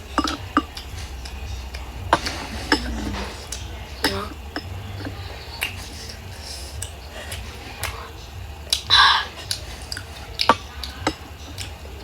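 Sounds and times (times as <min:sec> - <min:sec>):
low steady hum: 0:00.0 - 0:12.0
mouth clicks and smacks: 0:00.0 - 0:12.0
person chewing food: 0:00.0 - 0:12.0.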